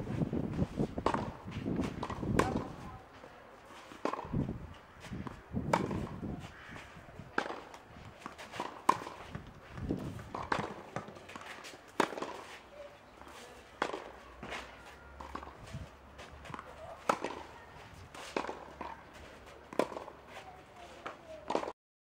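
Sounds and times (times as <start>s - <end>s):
shoe scuffs on clay court: 0.0s - 21.7s
tennis balls struck by rackets: 0.5s - 21.7s.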